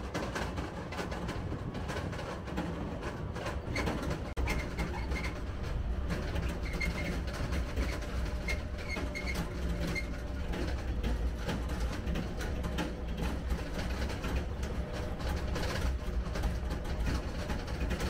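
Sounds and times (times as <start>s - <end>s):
tractor engine rumbling: 0.0s - 18.0s
trailer rattling over gravel: 0.0s - 18.0s.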